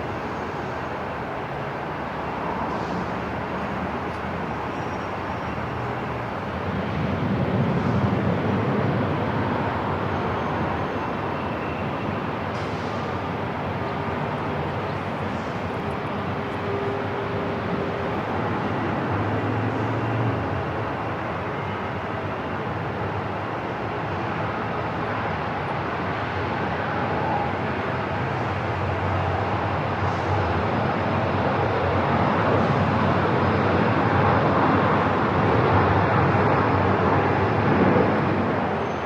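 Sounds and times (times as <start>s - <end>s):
airport terminal rumble: 0.0s - 39.0s.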